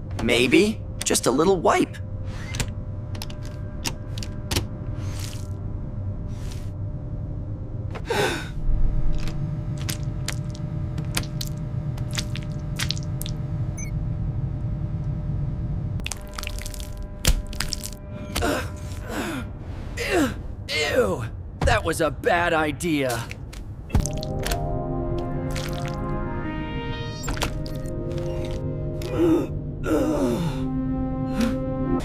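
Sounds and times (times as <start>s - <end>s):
steady low cockpit hum: 0.0s - 32.0s.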